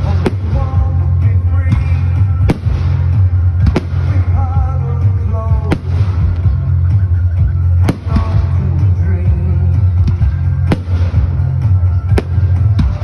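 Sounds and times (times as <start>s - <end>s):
fireworks bursting with bangs: 0.0s - 13.0s
loud music with heavy bass: 0.0s - 13.0s.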